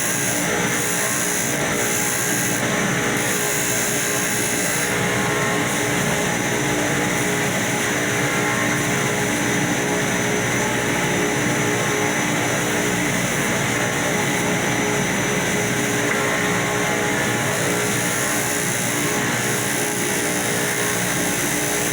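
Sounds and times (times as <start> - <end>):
electric power sander running: 0.0 - 21.9.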